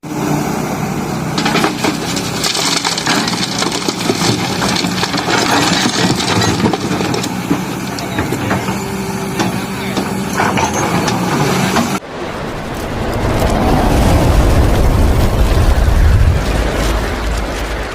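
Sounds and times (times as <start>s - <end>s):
diesel engine running: 0.0s - 17.9s
gravel crunching and clattering: 1.3s - 17.9s.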